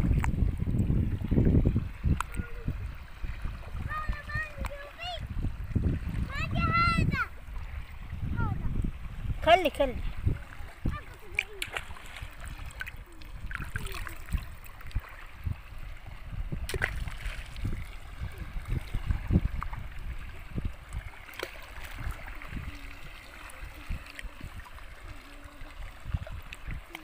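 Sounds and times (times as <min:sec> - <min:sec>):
seawater sloshing at shoreline: 0:00.0 - 0:27.0.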